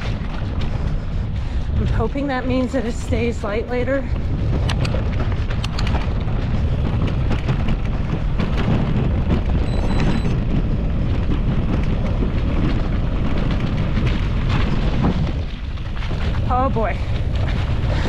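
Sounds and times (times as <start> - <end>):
bike clicks and rattles: 0.0 - 18.0
wind rumbling on microphone: 0.0 - 18.0.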